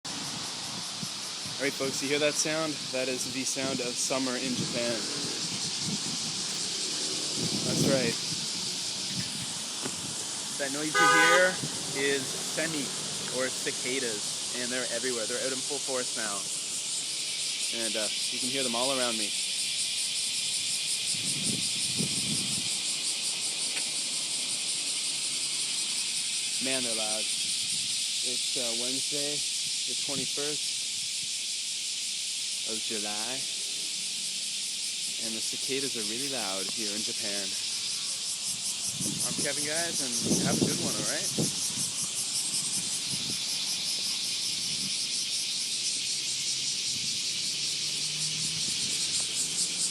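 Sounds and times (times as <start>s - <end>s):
cicadas droning: 0.0s - 49.9s.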